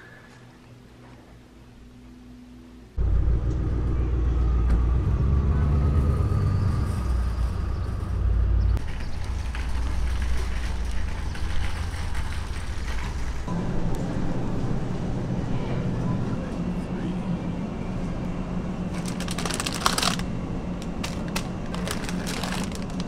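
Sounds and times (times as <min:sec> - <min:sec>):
parking lot rumble with vehicles: 0:03.0 - 0:23.0.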